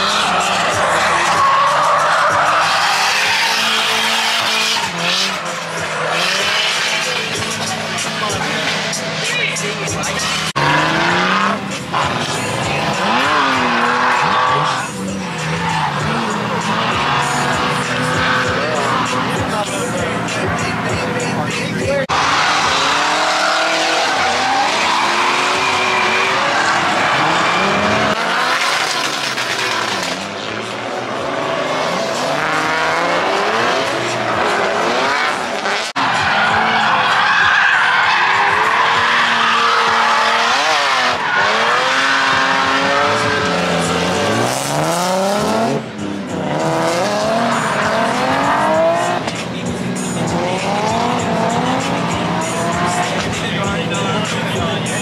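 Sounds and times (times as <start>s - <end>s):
car engines revving: 0.0s - 55.0s
tyres squealing and skidding: 0.0s - 55.0s.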